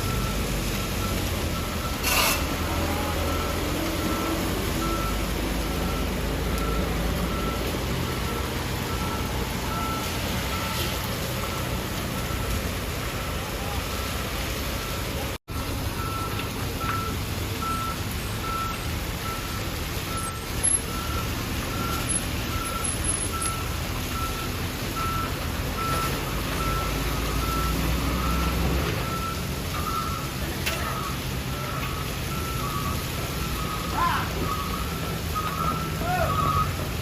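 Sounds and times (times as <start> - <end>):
truck engine running: 0.0 - 37.0
truck reversing alarm beeps: 0.0 - 37.0.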